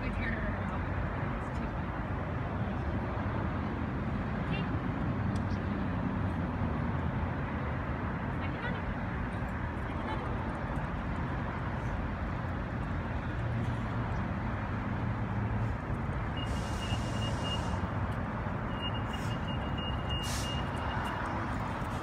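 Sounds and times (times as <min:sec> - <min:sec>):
outdoor rumble and hiss: 0:00.0 - 0:22.0.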